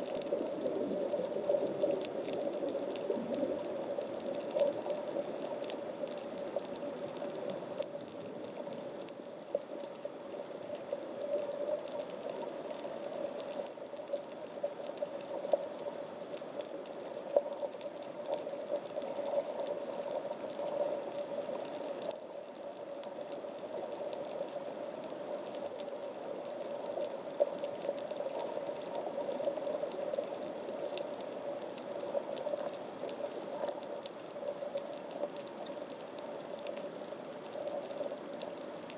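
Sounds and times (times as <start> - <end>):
faint crackling clicks: 0.0 - 38.9.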